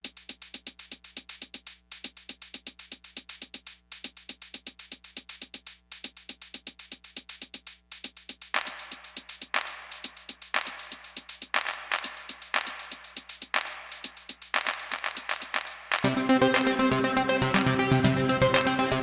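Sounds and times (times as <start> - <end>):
electronic drum machine beat: 0.0 - 19.0.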